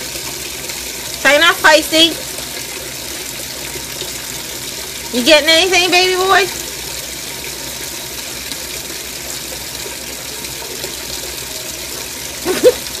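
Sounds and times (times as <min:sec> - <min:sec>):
water pouring into washing machine: 0:00.0 - 0:13.0.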